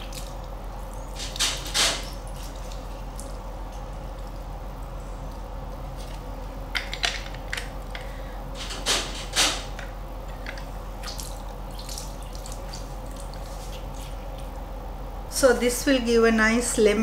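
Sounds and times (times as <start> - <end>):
juice dripping: 0.0 - 8.6, 9.6 - 15.3.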